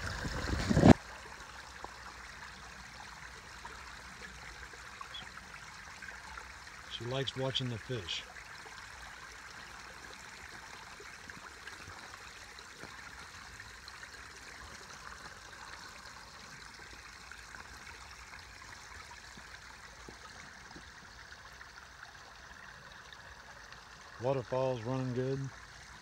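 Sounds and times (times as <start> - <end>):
waterfall trickling and splashing: 0.0 - 26.0.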